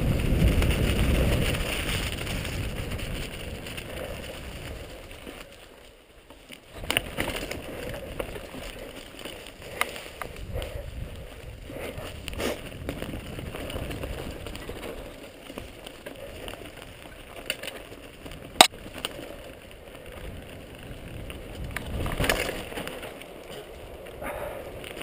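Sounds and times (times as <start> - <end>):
bike rattling: 0.0 - 25.0
bike tyres rolling over leaves: 0.0 - 25.0.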